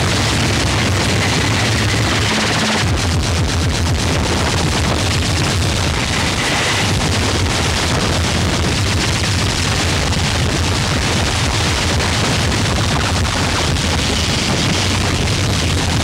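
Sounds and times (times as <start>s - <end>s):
loud distorted noise: 0.0s - 16.0s.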